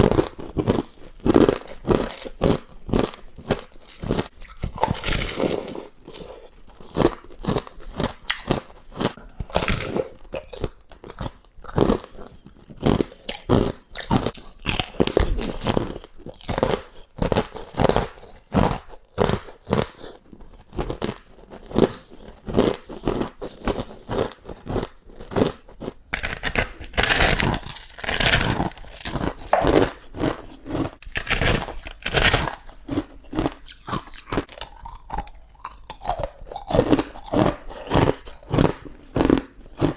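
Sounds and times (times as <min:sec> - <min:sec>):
ice being crunched and chewed: 0:00.0 - 0:39.9.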